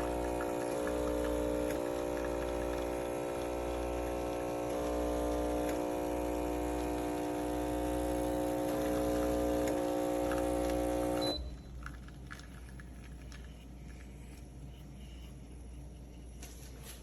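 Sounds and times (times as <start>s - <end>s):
espresso machine pump humming: 0.0s - 17.0s.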